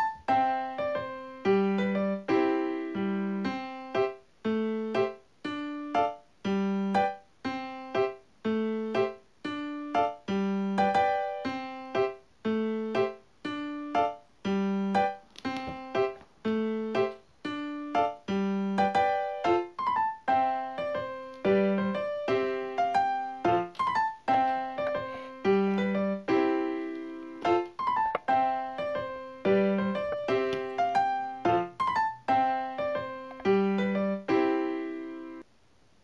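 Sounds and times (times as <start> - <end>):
light keyboard tune: 0.0 - 35.4.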